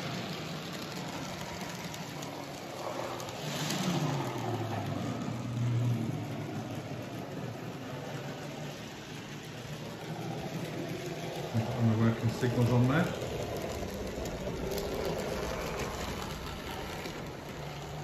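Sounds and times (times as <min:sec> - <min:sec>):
model train motor hum: 0:00.0 - 0:18.0.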